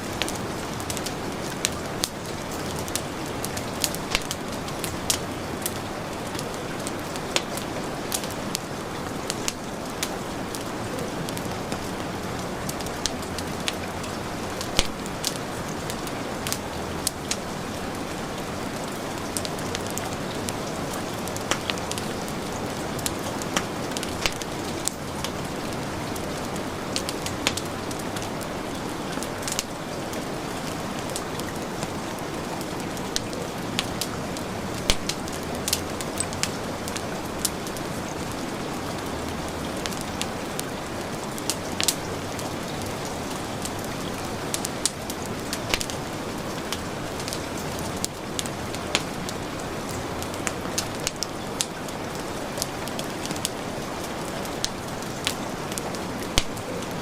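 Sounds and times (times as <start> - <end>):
heavy rain falling: 0.0 - 57.0
wood fire crackling: 0.0 - 57.0.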